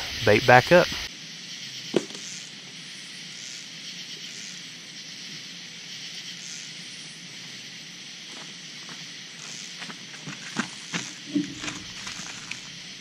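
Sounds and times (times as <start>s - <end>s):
night insect chorus: 0.0s - 13.0s.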